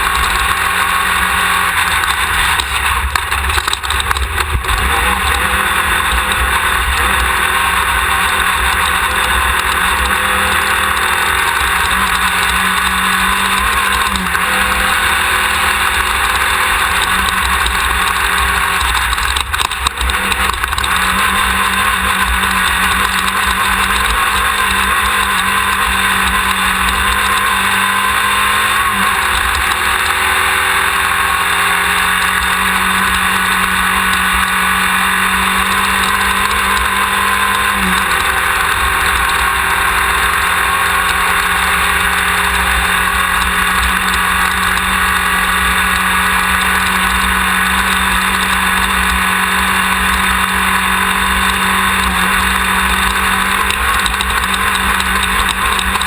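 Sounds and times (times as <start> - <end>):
buggy engine running hard: 0.0 - 56.0.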